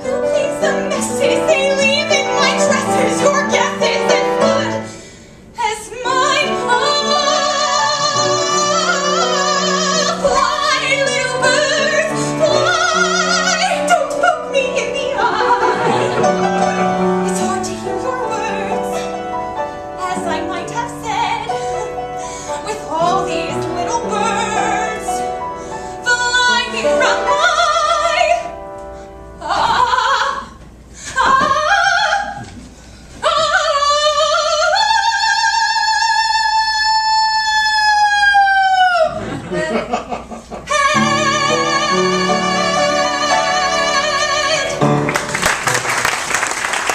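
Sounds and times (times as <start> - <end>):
woman singing operatic soprano: 0.0 - 5.0, 5.6 - 28.5, 29.4 - 32.6, 33.2 - 39.9, 40.6 - 45.0.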